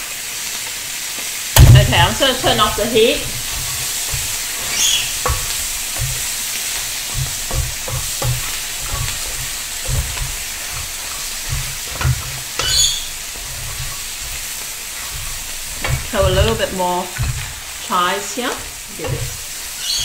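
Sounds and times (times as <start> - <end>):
omelette sizzling in a frying pan: 0.0 - 20.0
spatula knocking against pan: 1.6 - 17.6, 18.6 - 20.0
spatula scraping: 1.6 - 20.0.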